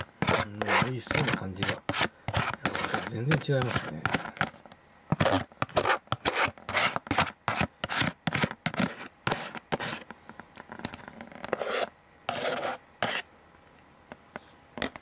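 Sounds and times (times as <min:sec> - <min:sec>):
metal spoon scraping plastic container: 0:00.0 - 0:10.1, 0:10.8 - 0:13.2.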